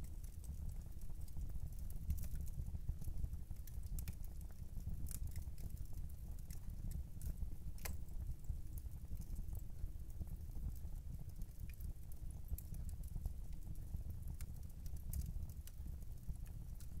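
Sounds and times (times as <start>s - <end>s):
fire crackling and popping: 0.0s - 17.0s
fireplace flames rumbling: 0.0s - 17.0s.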